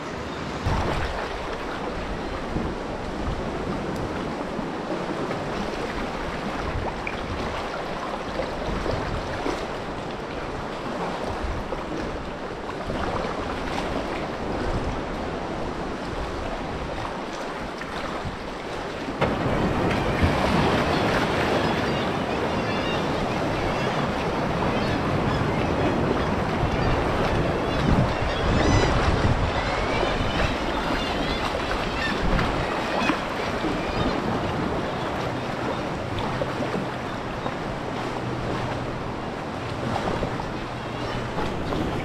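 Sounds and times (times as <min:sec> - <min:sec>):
paddle strokes in water: 0:00.0 - 0:42.0
rush of waves: 0:00.0 - 0:42.0
water sloshing around a kayak: 0:00.0 - 0:42.0
wind: 0:00.0 - 0:42.0.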